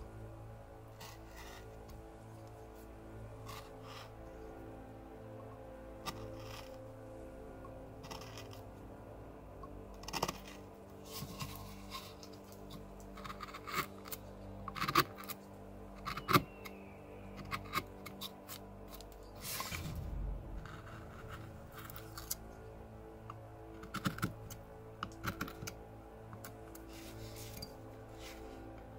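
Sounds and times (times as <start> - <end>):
faint background music: 0.0 - 28.9
carving gouge cutting bark: 0.8 - 7.0, 7.6 - 8.9, 9.6 - 19.9, 20.6 - 28.9.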